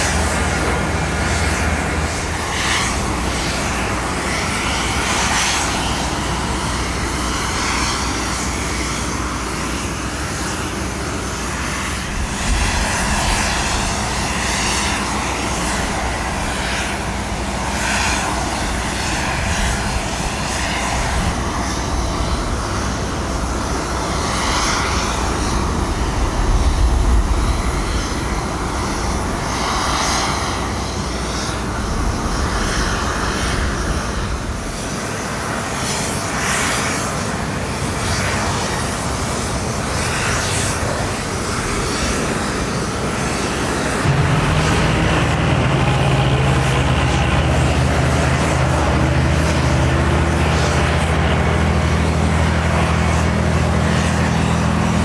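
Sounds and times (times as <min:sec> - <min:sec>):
jet aircraft roar: 0:00.0 - 0:55.0.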